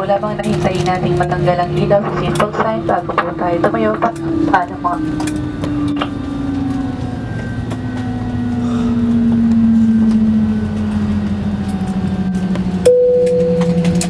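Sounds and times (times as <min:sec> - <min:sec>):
jet engines spooling down: 0:00.0 - 0:14.0.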